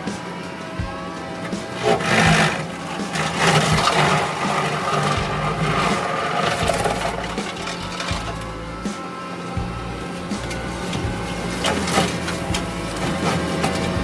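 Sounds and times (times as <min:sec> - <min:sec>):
brush cutter chewing brush: 0:00.0 - 0:14.0
diesel engine under load: 0:00.0 - 0:14.0.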